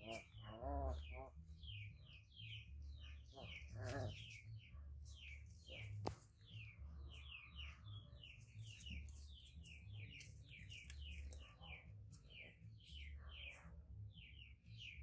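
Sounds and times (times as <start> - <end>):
low pulsing hum: 0.0 - 15.0
small birds chirping: 0.0 - 15.0.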